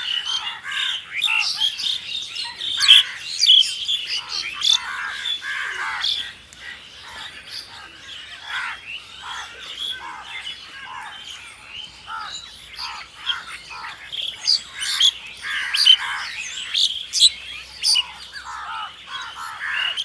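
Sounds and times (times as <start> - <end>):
crows calling: 0.0 - 20.0.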